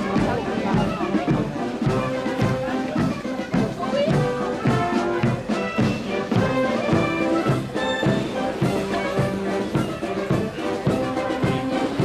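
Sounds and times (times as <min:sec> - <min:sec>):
brass band playing a march: 0:00.0 - 0:12.0.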